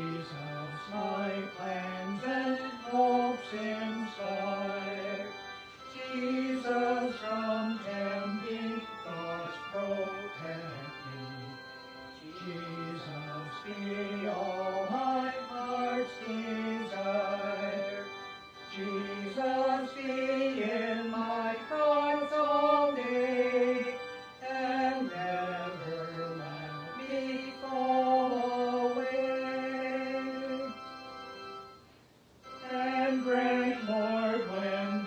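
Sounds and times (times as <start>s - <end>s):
slow hymn-like music: 0.0s - 35.0s.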